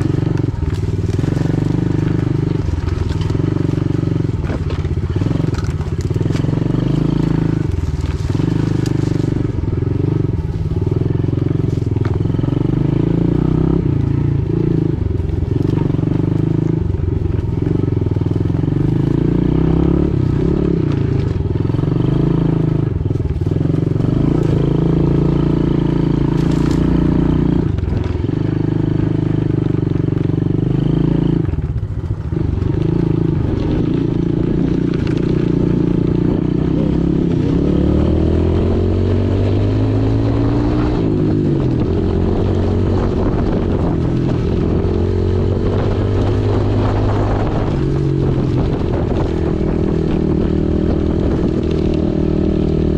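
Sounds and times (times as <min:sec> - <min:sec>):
pit bike engine revving: 0:00.0 - 0:52.9.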